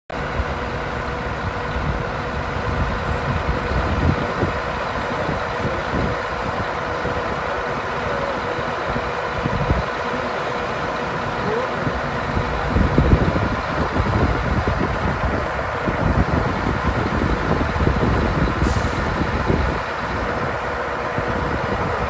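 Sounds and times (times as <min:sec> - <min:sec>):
diesel engine idling: 0:00.1 - 0:22.0.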